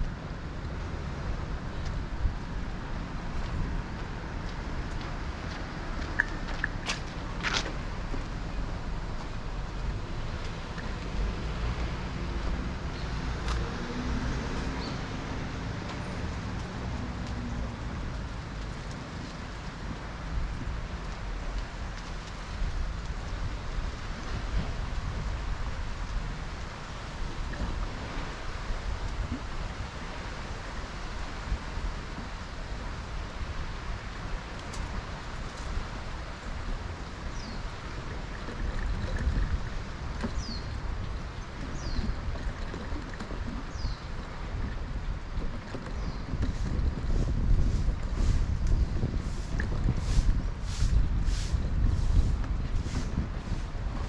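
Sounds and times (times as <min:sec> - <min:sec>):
city road traffic rumble: 0:00.0 - 0:54.0.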